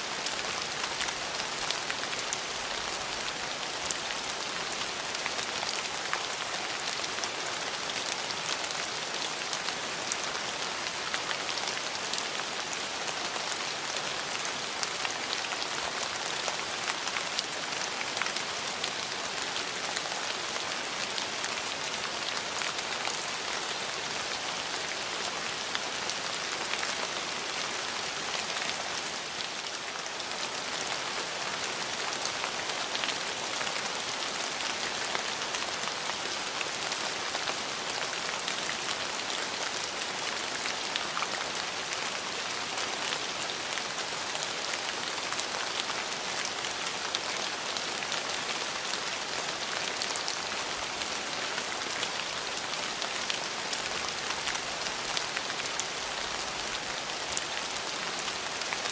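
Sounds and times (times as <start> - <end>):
rain on hard surfaces: 0.0 - 58.9.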